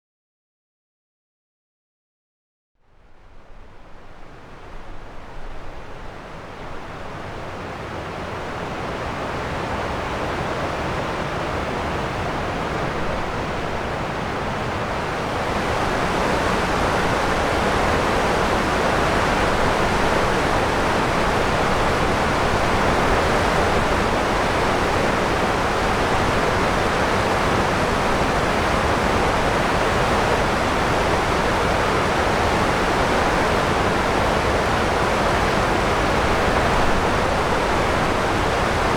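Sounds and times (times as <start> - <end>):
river flowing over rocks: 4.0 - 38.9.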